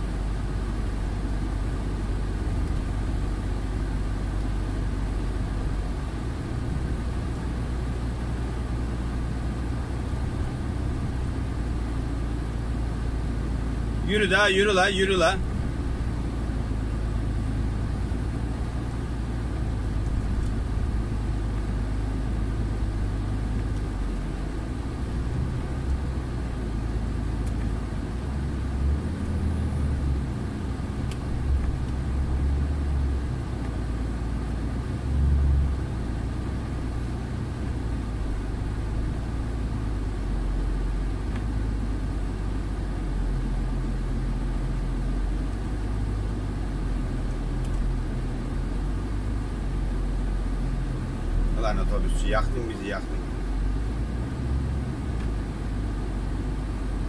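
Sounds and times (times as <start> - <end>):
truck engine drone: 0.0 - 57.0.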